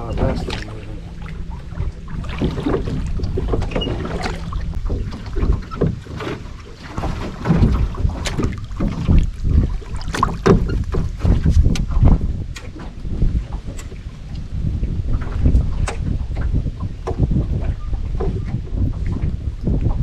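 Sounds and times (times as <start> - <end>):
knocks and bumps from boat: 0.0 - 20.0
wind rumbling on microphone: 0.0 - 20.0.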